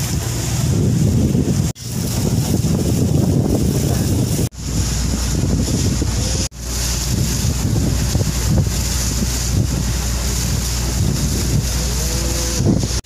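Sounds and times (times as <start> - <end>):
motor boat engine drone: 0.0 - 13.0
wind buffeting microphone: 0.0 - 13.0.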